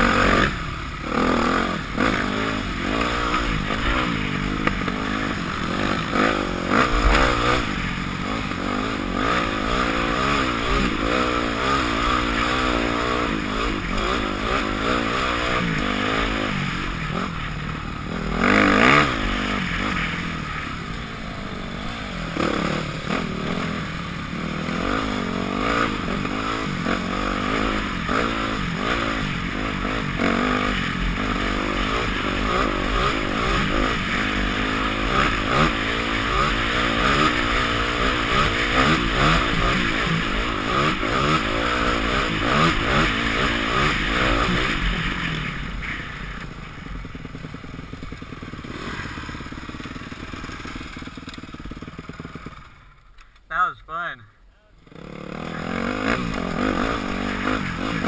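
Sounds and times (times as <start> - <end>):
motorcycle engine revving: 0.0 - 53.4, 54.7 - 58.0.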